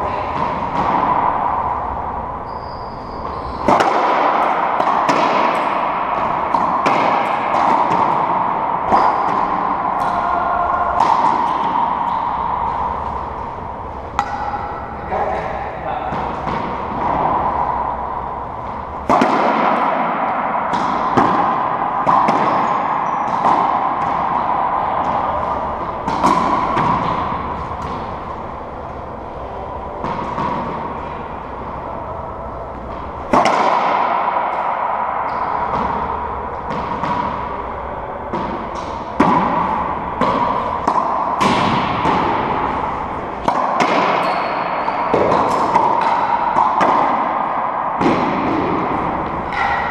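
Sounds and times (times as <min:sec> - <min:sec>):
racquetball hits echoing in court: 0:00.0 - 0:49.9.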